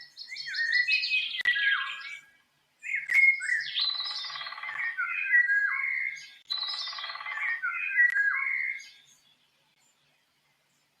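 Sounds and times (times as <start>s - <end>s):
bird call: 0.0s - 9.0s.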